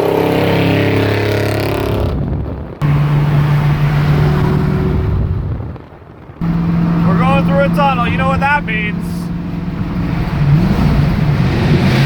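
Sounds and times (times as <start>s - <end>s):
car engine droning: 0.0s - 12.0s
deeper engine drone: 0.0s - 12.0s.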